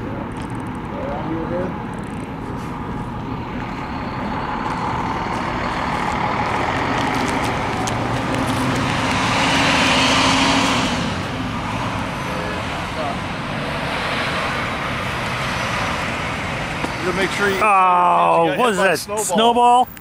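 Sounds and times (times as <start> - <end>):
heavy vehicle passing: 1.1 - 18.8.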